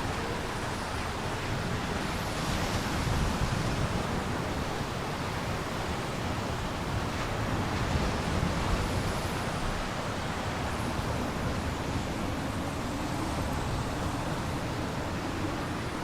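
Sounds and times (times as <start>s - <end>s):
strong storm wind: 0.0s - 16.0s
waves on lake: 0.0s - 16.0s.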